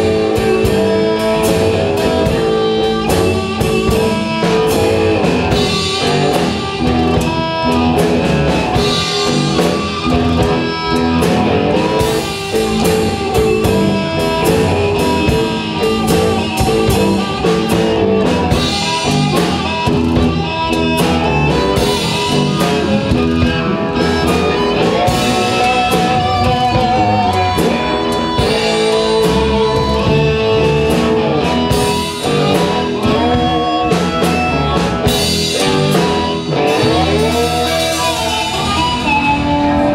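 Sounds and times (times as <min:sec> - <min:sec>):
amplified guitars: 0:00.0 - 0:39.9
drum kit steady beat: 0:00.0 - 0:39.9
harmonica: 0:00.0 - 0:39.9.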